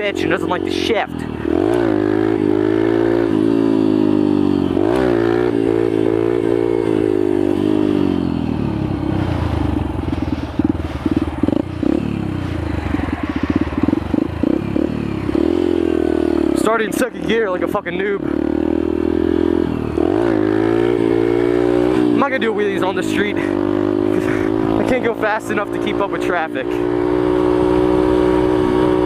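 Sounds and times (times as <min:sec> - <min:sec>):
small motorcycle engine running: 0:00.0 - 0:29.0.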